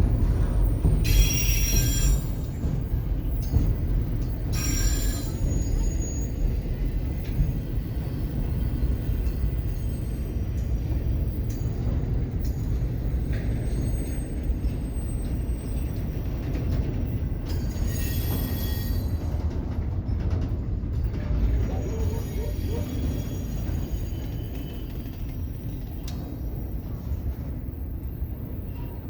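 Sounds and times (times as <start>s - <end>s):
steel wheels rumbling on rail: 0.0s - 29.0s.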